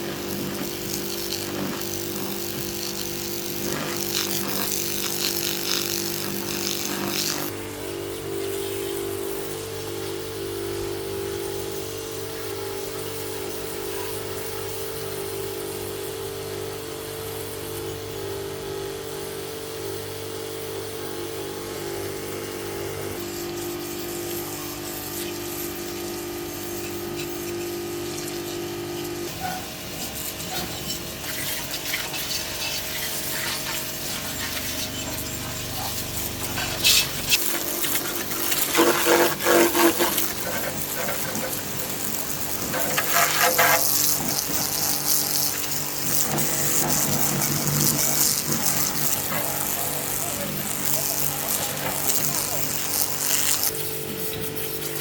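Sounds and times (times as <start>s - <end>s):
motor humming: 0.0s - 11.6s, 13.4s - 55.0s.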